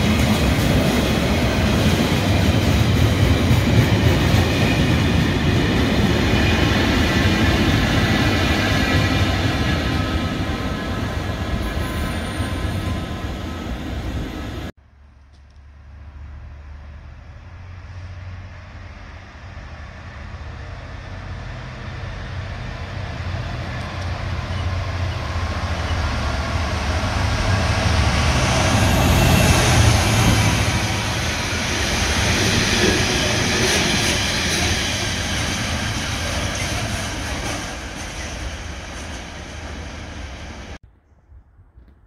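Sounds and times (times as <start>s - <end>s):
diesel locomotive engine rumble: 0.0s - 41.0s
rail noise: 0.0s - 42.0s.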